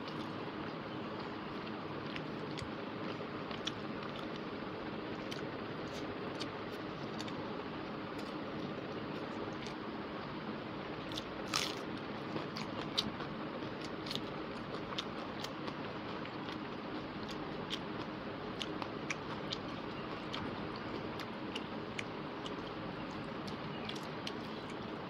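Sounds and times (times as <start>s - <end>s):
wet chewing and mouth clicks: 0.0s - 7.4s, 11.1s - 25.0s.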